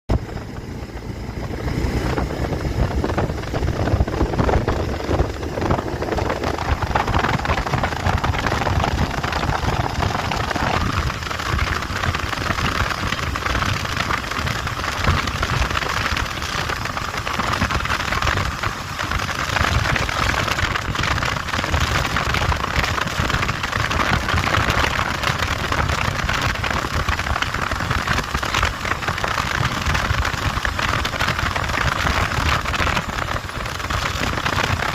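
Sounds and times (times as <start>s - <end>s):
motorcycle engine rumble: 0.1s - 34.9s
wind rushing over microphone: 0.1s - 34.9s.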